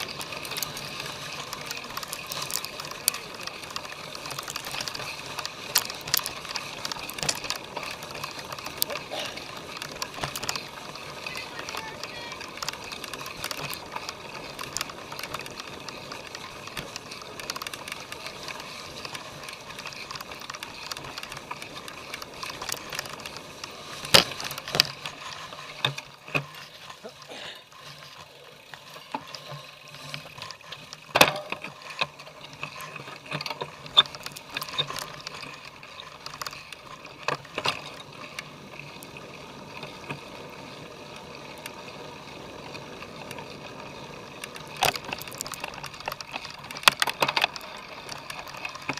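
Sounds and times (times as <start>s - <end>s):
bike chain rattling: 0.0s - 48.9s
bike clanking over bumps: 0.0s - 48.9s.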